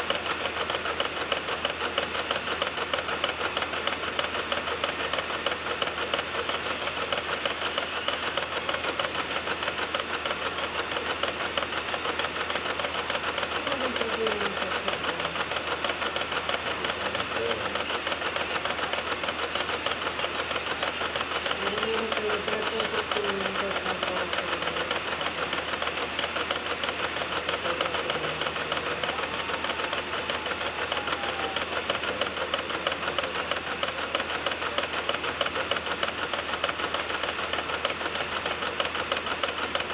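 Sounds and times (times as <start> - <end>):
disc drive clicking rapidly: 0.0 - 39.9.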